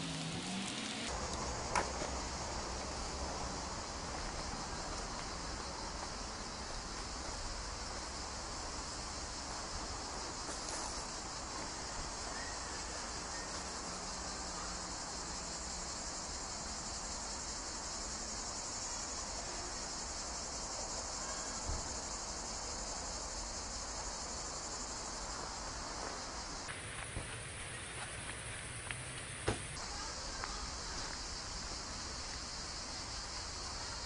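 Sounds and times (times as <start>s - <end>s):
chorus of chirring insects: 0.0s - 34.0s.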